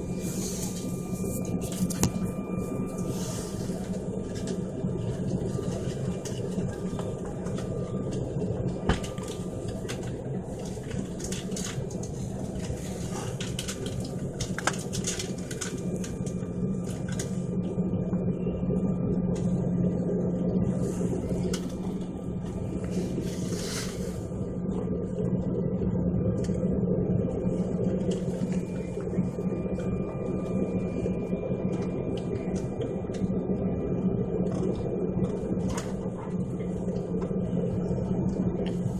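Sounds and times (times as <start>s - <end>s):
low drone inside vehicle: 0.0s - 38.9s.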